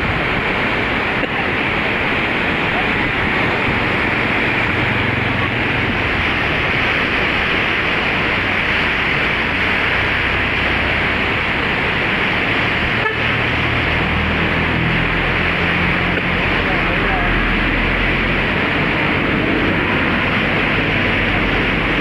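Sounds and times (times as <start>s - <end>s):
river current rushing: 0.0s - 22.0s.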